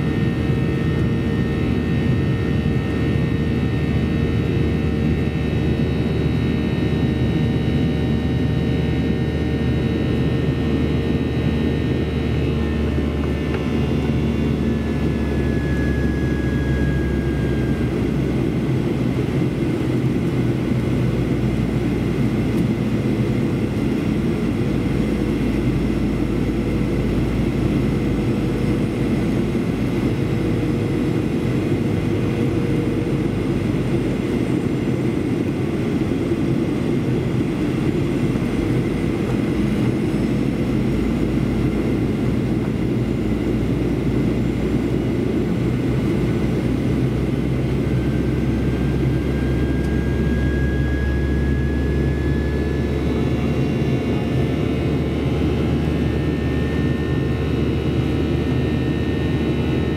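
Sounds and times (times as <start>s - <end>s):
faint whine: 0.0s - 59.9s
jet engines rumbling: 0.0s - 59.9s.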